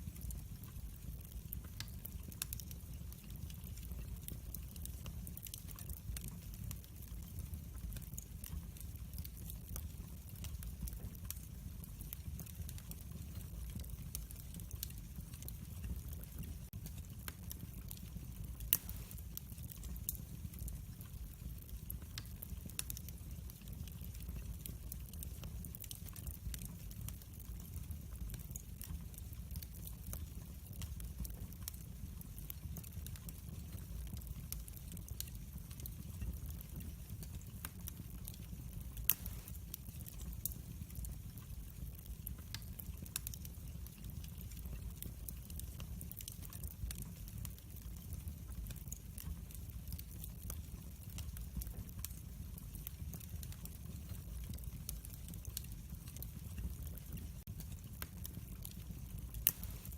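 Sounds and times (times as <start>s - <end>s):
low rumble of flames: 0.0s - 59.9s
wood fire crackling: 0.0s - 59.9s.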